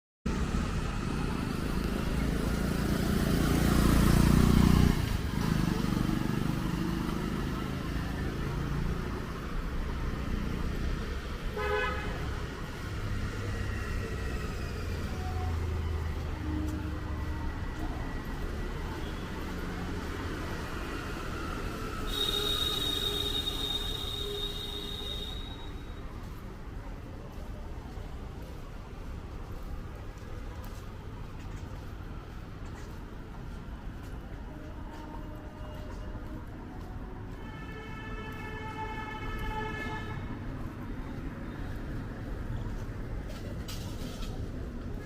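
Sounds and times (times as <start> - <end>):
motor vehicle rumble: 0.3 - 37.5, 38.9 - 45.0.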